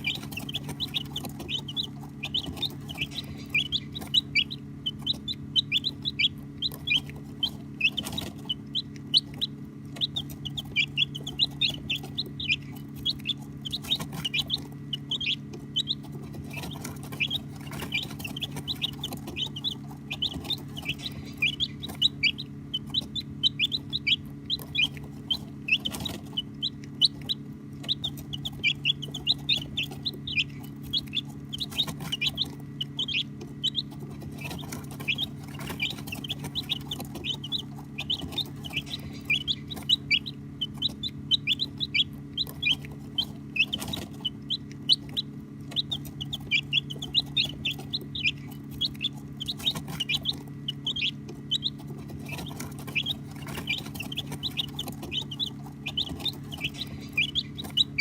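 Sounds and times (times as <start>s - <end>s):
baby chicks peeping: 0.0s - 58.0s
steady low hum: 0.0s - 58.0s.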